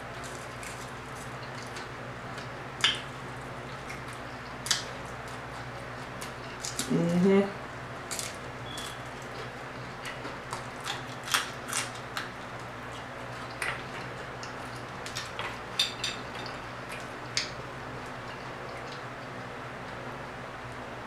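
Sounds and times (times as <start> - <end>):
crunching fried fish: 0.0 - 6.9, 8.0 - 19.0
low steady hum: 0.0 - 21.0.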